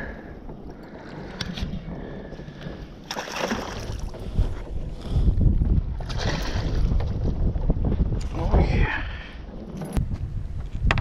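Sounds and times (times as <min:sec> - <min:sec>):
water lapping by boat: 0:00.0 - 0:10.8
wind rumbling on microphone: 0:00.0 - 0:11.0.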